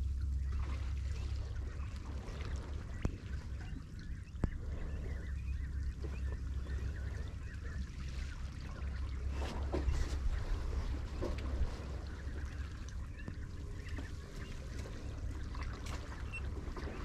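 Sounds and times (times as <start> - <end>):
seawater sloshing and gurgling: 0.0 - 17.0
wind rumble on microphone: 0.0 - 17.0.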